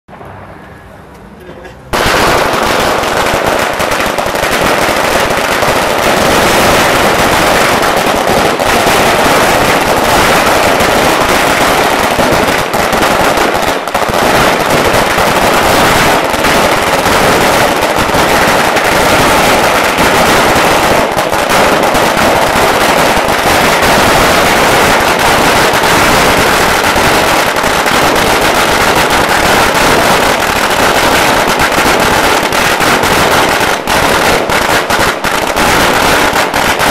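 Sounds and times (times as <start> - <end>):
firecrackers banging rapidly: 1.9 - 36.9.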